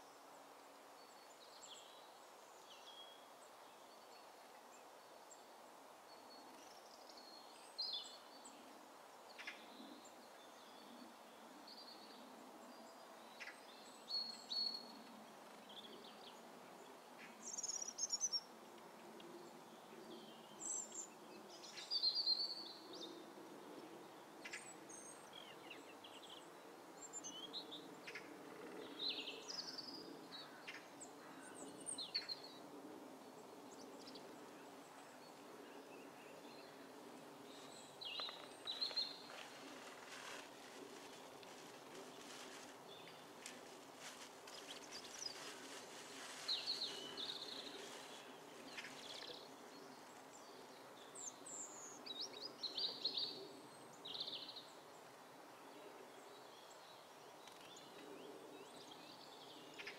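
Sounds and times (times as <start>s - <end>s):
low background noise: 0.0s - 59.9s
small birds chirping and singing: 1.0s - 59.9s.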